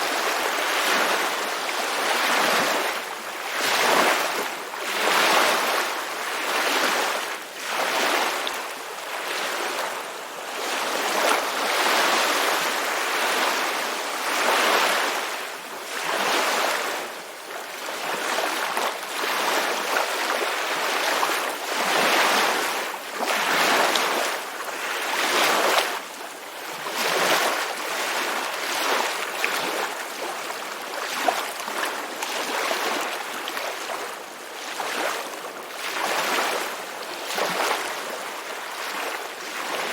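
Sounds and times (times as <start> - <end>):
ocean waves washing in and out: 0.0 - 39.9.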